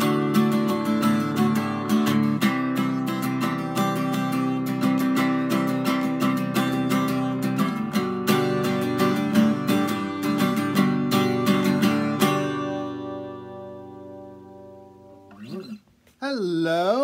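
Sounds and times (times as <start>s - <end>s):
acoustic guitar strummed with a pick: 0.0s - 15.8s.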